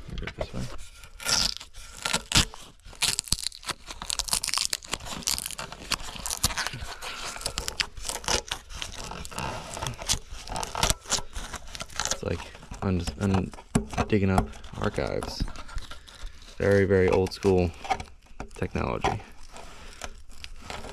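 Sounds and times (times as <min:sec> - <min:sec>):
duct tape peeling off metal: 0:00.5 - 0:20.9.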